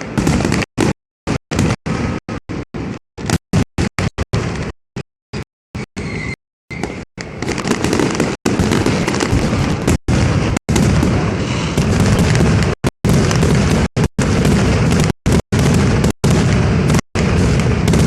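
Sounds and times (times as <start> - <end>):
firecrackers exploding: 0.0 - 4.7, 7.3 - 18.0.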